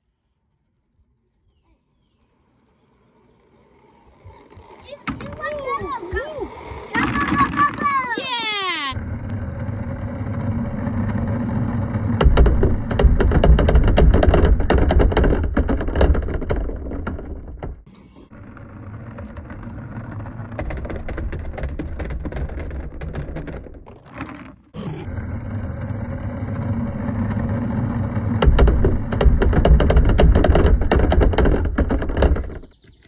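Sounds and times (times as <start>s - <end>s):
balls rolling on plastic track: 2.1s - 33.0s.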